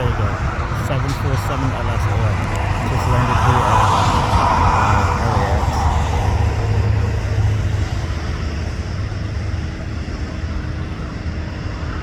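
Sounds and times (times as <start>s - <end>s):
faint steady whine: 0.0s - 12.0s
jet engines rumbling: 0.0s - 12.0s.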